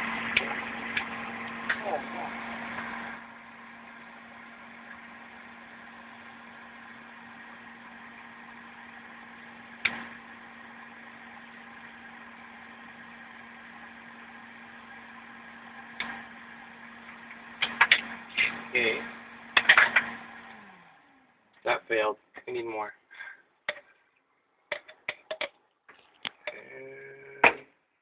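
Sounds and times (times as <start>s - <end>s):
electric fan humming: 0.0s - 23.8s.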